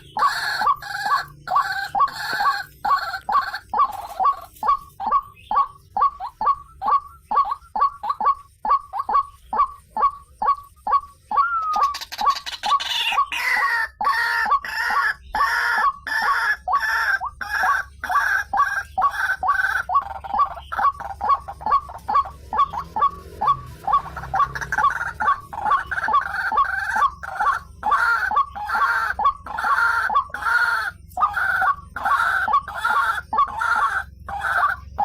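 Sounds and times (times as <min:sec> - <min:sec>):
harsh bird calls: 0:00.0 - 0:35.0
waterhen calling: 0:00.0 - 0:35.0.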